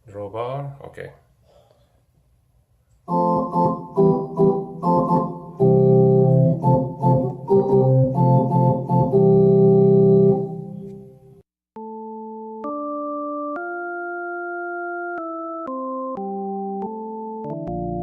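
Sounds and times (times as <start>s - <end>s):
keyboard organ chords: 3.1s - 18.0s.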